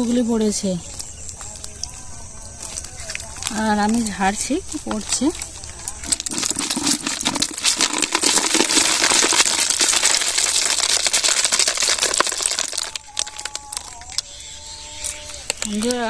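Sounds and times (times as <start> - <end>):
mesh rustling: 0.8 - 16.0
snail shells clattering into bucket: 2.6 - 16.0.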